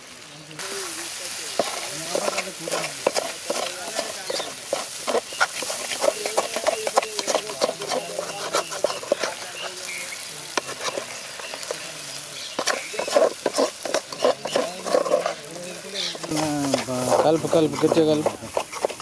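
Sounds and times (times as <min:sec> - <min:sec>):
meat sizzling: 0:00.0 - 0:19.0
metal ladle scraping pan: 0:01.4 - 0:19.0.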